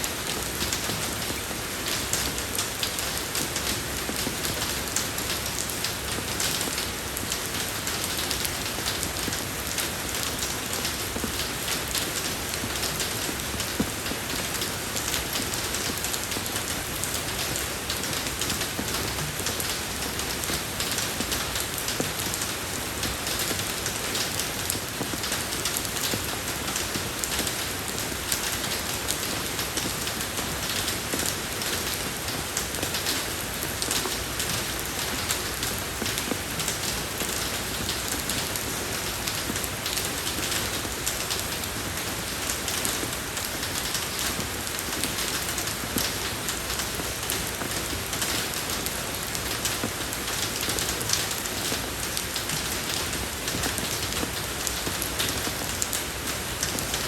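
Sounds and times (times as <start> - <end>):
rain falling on road: 0.0 - 57.0.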